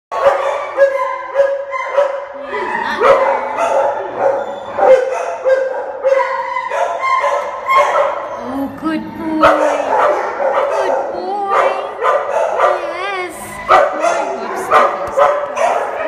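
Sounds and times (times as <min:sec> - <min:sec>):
dog barking: 0:00.1 - 0:08.4, 0:09.4 - 0:13.0, 0:13.6 - 0:16.0.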